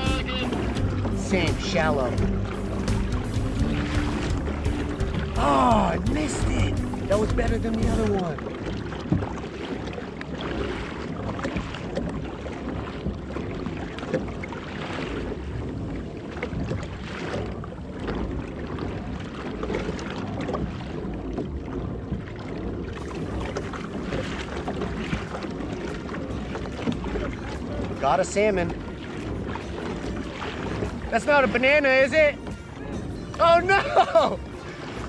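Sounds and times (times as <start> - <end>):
waves lapping against kayak hull: 0.0 - 35.0.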